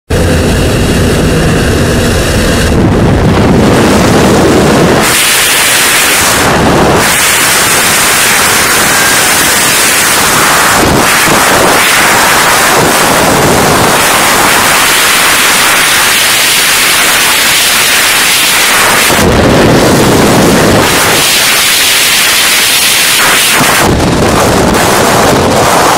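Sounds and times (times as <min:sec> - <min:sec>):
freefall wind rushing over microphone: 0:00.1 - 0:25.9
light aircraft engine and propeller: 0:00.1 - 0:25.9.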